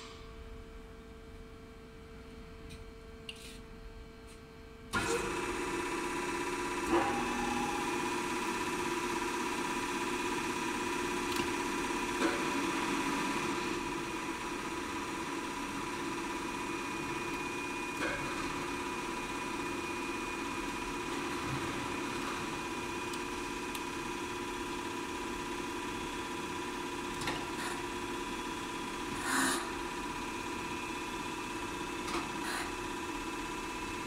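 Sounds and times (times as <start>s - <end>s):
grinder machine hum: 5.0s - 34.0s.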